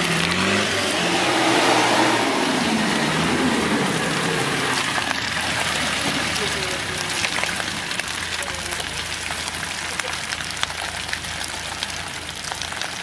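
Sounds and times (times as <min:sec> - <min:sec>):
engine revving through mud: 0:00.0 - 0:13.0.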